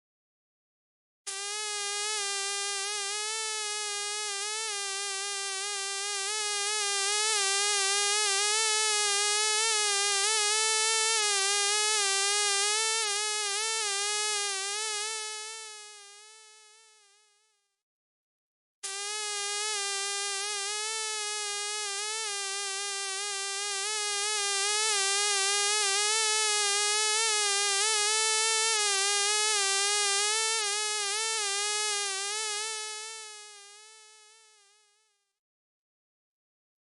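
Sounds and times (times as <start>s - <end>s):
mosquito buzzing: 1.3s - 17.7s, 18.8s - 35.3s.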